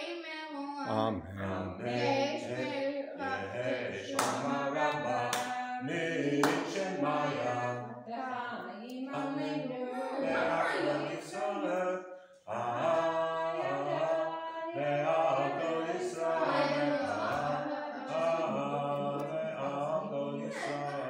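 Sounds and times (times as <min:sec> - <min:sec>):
boy chanting prayer: 0:00.0 - 0:07.8, 0:08.9 - 0:11.8, 0:12.5 - 0:21.0.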